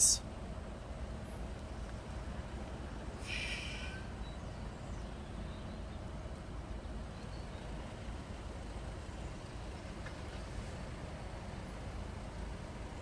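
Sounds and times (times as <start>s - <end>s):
diesel train engine idling: 0.0s - 13.0s.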